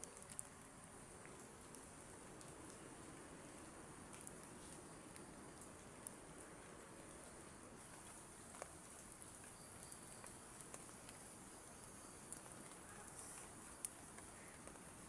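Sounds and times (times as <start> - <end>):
light rain hiss: 0.0 - 15.0
raindrops ticking: 0.0 - 15.0.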